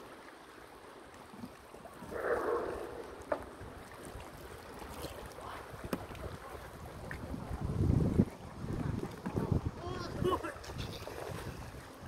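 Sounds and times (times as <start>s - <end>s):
water lapping against rocks: 0.0s - 12.0s
water slosh: 0.0s - 12.0s.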